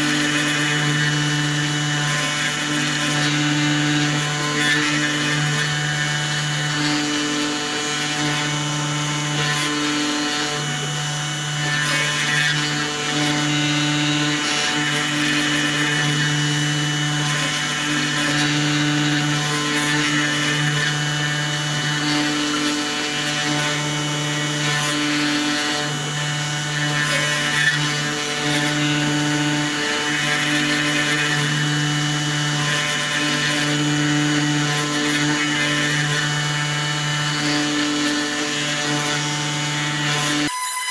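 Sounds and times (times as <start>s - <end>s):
router spindle motor humming: 0.0s - 40.9s.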